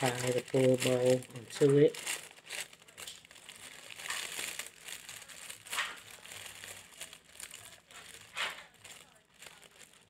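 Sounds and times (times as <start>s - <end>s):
plastic film crinkling: 0.0s - 10.0s.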